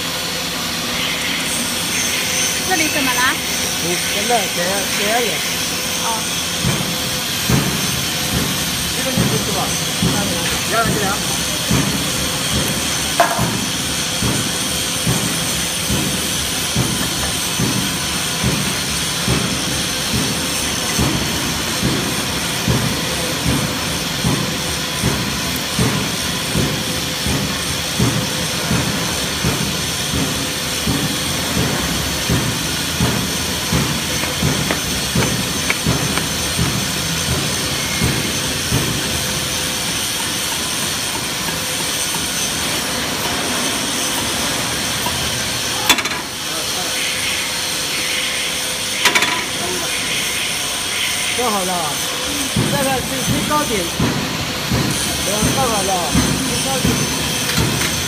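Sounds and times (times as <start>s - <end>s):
machinery hiss: 0.0s - 58.0s.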